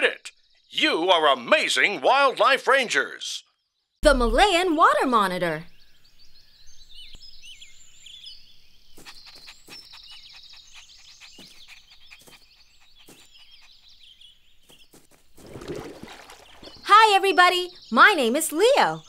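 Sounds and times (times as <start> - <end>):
birds chirping and trilling: 0.0 - 19.0.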